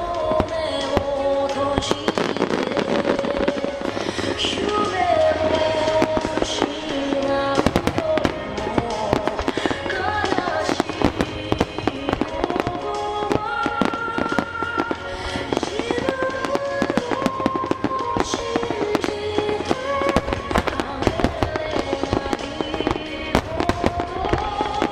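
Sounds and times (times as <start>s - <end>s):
fireworks bursting and crackling: 0.0s - 24.9s
music with long held notes: 0.0s - 24.9s.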